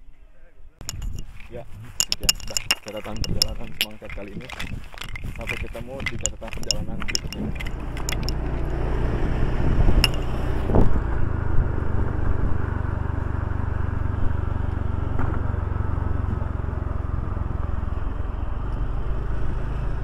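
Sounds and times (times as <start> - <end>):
vehicle engine and road noise: 1.0 - 20.0.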